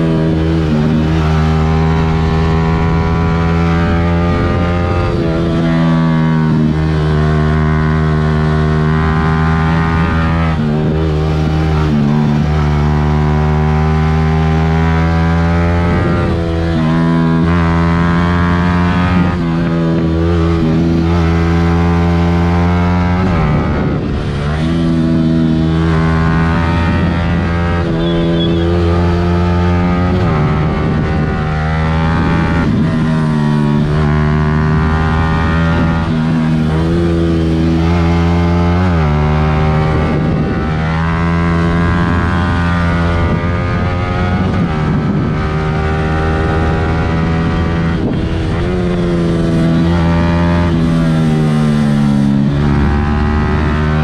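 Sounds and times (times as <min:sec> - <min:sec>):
motorcycle engine at high revs: 0:00.0 - 0:54.0
wind noise: 0:00.0 - 0:54.0.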